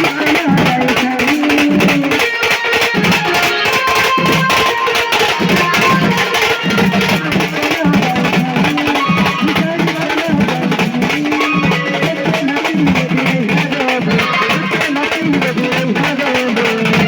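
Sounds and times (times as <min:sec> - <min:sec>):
fast dense percussion: 0:00.0 - 0:17.0.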